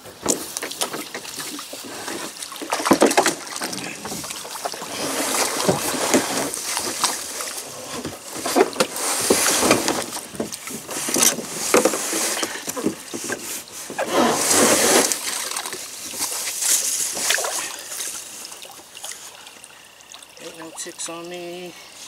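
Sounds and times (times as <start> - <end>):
kayak scraping in shallow water: 0.0 - 19.3
water splashing: 0.0 - 21.7.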